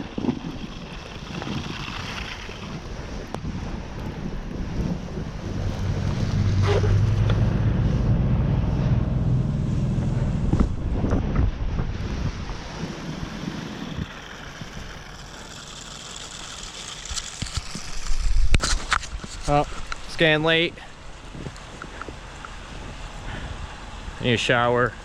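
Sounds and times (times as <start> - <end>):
snowboard scraping over icy snow: 0.0 - 7.5, 10.2 - 24.7
wind buffeting microphone: 0.0 - 15.4, 17.5 - 24.7.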